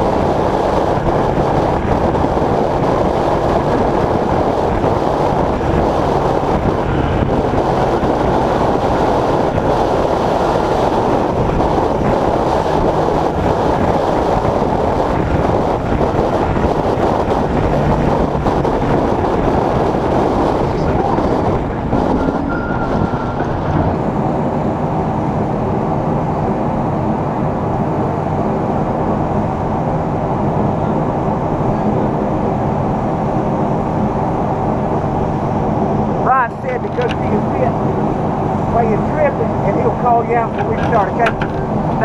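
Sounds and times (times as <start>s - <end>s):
race car engine drone: 0.0s - 42.0s
wind and road noise: 0.0s - 42.0s.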